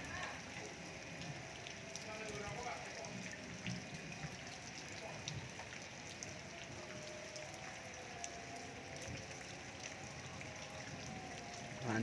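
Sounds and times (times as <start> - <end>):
raindrops tapping surfaces: 0.0 - 12.0
steady rain falling: 0.0 - 12.0.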